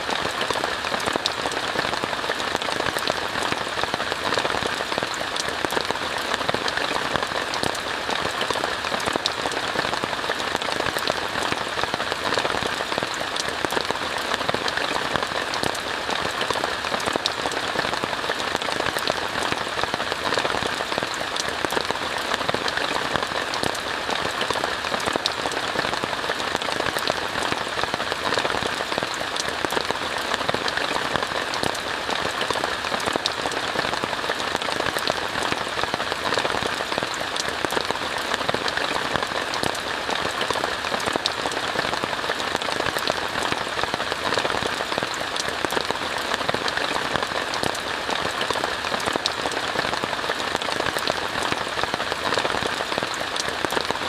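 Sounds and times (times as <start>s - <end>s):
rain on a tent: 0.0s - 54.0s.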